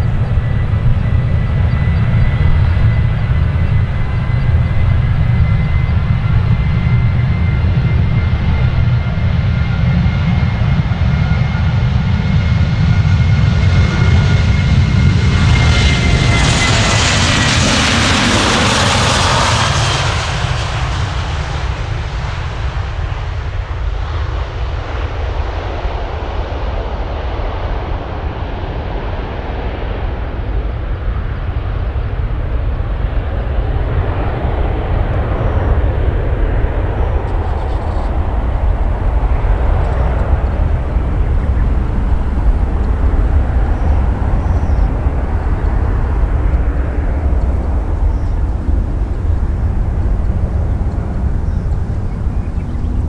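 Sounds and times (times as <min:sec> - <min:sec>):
jet engines roaring at takeoff: 0:00.0 - 0:53.0.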